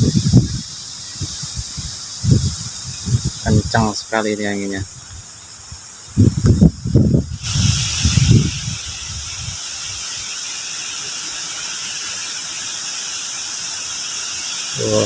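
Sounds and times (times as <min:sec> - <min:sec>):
strong wind rushing through trees: 0:00.0 - 0:15.0.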